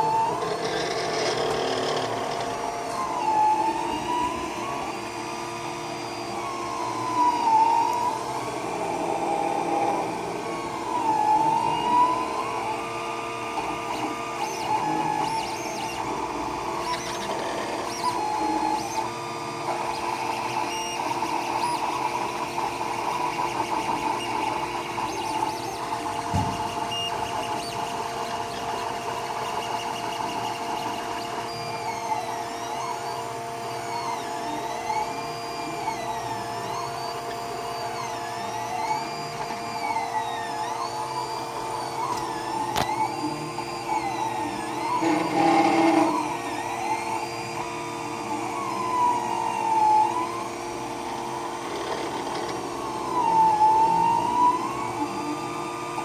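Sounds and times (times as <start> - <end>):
rising and falling whine: 0.0 - 19.7, 23.8 - 56.0
stepper motors whining: 0.0 - 56.0.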